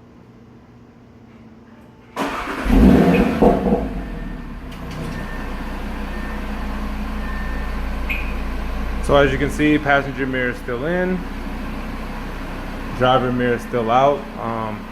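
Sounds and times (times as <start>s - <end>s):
car engine starting and idling: 2.2s - 14.9s.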